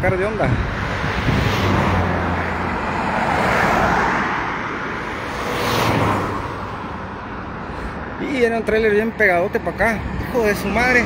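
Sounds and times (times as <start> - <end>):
highway traffic passing: 0.0 - 11.0.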